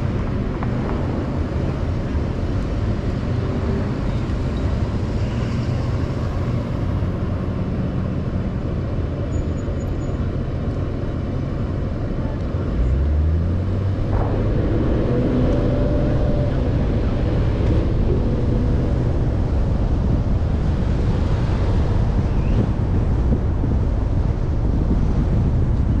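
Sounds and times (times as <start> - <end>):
car engine rumbling: 0.0 - 26.0
street noise: 0.0 - 26.0.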